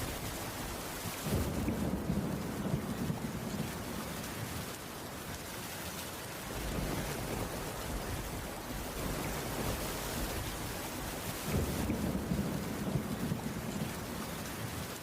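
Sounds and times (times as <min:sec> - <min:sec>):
heavy rain on a roof: 0:00.0 - 0:15.0.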